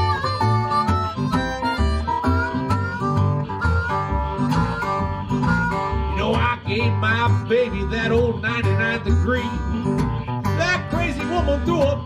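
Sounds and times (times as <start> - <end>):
acoustic blues guitar: 0.0 - 12.0
blues harmonica: 0.0 - 12.0.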